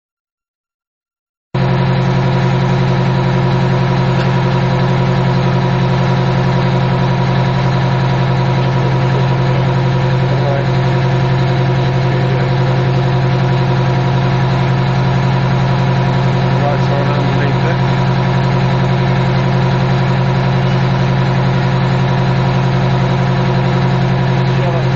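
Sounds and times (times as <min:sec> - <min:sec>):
turboprop engines droning: 0:01.6 - 0:24.9.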